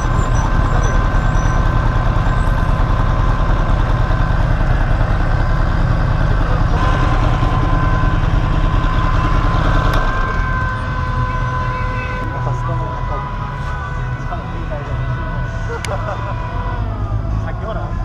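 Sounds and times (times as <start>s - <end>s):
high whine: 0.0s - 18.0s
motorcycle engine rumble: 0.0s - 18.0s.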